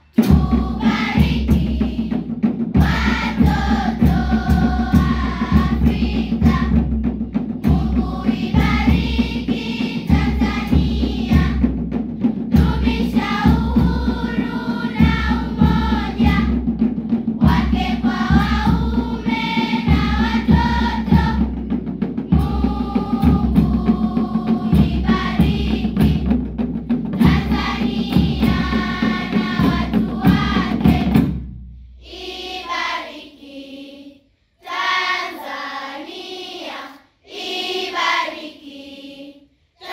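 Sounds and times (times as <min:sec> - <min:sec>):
choir singing: 0:00.0 - 0:07.0, 0:07.6 - 0:11.8, 0:12.5 - 0:26.4, 0:27.2 - 0:31.4, 0:32.0 - 0:39.9
heavy drum beat: 0:00.0 - 0:32.0.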